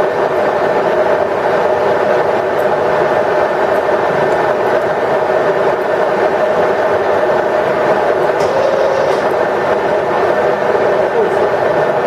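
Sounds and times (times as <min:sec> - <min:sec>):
lathe running with mechanical whir: 0:00.0 - 0:12.0.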